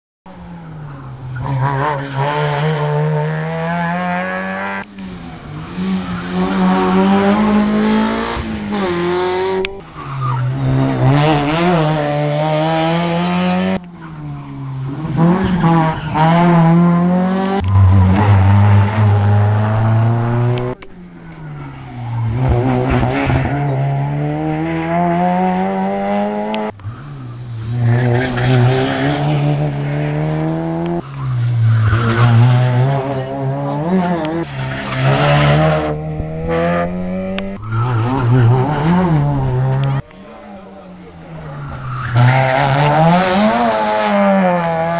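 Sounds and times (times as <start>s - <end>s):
rally car engines revving: 0.3s - 44.9s.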